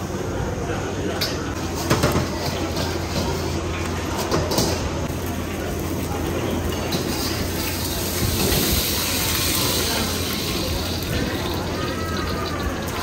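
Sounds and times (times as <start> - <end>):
gas burner roaring: 1.5 - 13.0.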